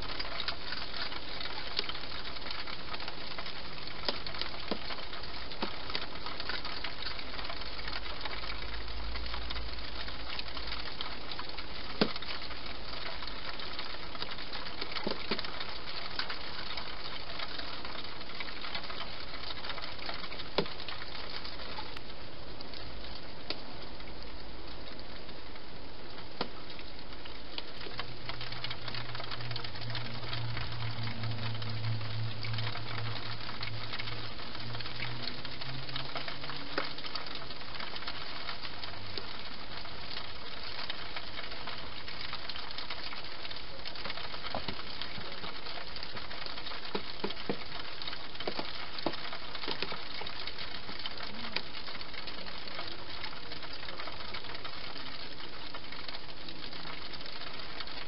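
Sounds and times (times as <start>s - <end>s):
background hiss: 0.0s - 58.0s.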